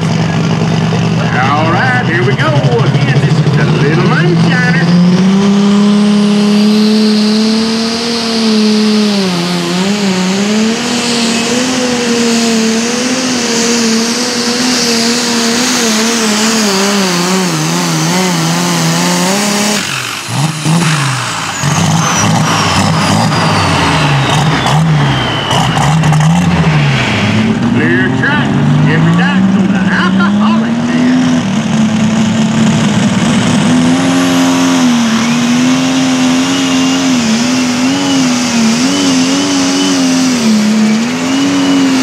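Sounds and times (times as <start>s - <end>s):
diesel tractor engine under load: 0.0s - 42.0s.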